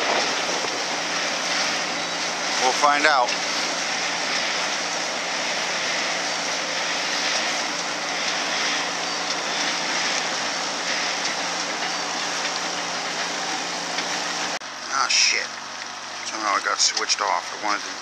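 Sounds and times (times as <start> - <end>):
boat motor running: 0.0 - 18.0
rushing wind and water: 0.0 - 18.0.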